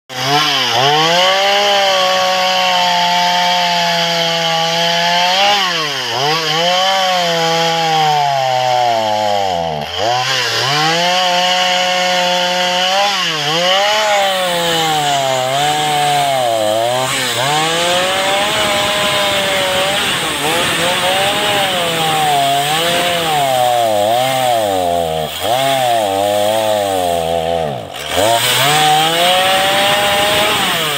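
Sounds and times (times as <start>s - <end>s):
chainsaw cutting through log: 0.1s - 30.9s.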